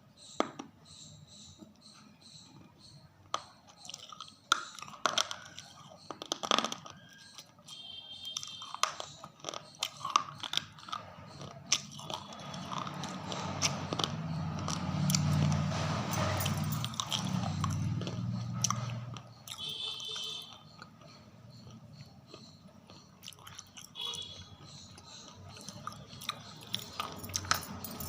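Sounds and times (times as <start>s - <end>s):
crunching and chewing: 2.5s - 28.0s.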